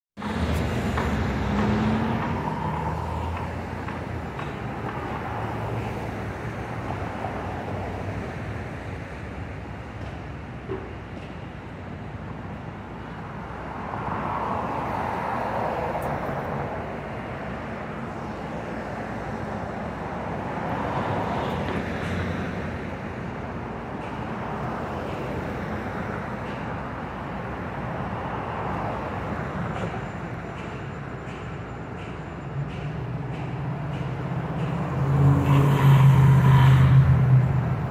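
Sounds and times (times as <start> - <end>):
vehicles passing on street: 0.2 - 37.9.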